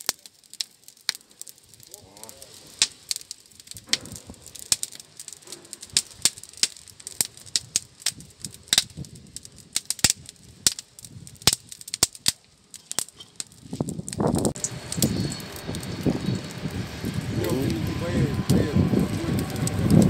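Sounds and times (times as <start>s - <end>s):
campfire crackling and popping: 0.0s - 20.0s
low wind rumble: 1.6s - 20.0s.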